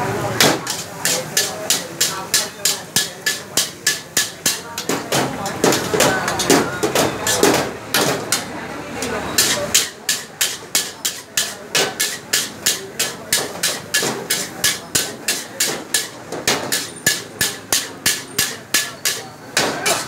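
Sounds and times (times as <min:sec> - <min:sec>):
metal tongs clanking on wok: 0:00.4 - 0:20.0.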